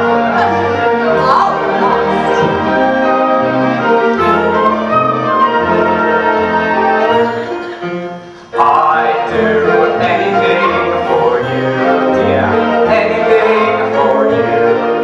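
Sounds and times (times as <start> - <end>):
pit orchestra playing: 0.0 - 15.0.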